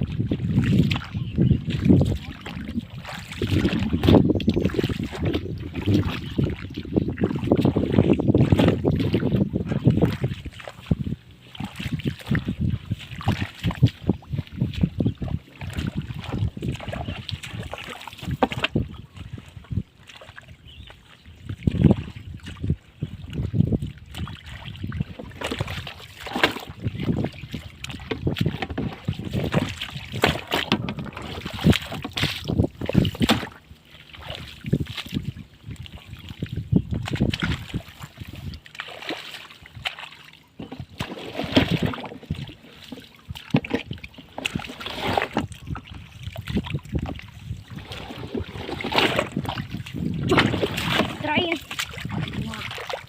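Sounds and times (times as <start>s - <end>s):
splashing in shallow water: 0.0s - 53.0s.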